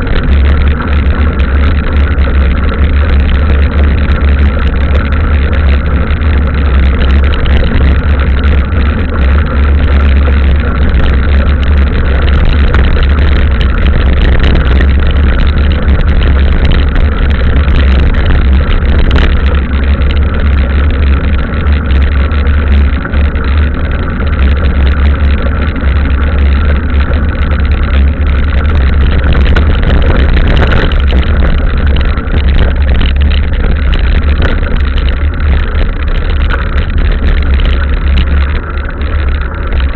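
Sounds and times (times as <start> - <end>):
wind and riding noise: 0.0 - 39.9.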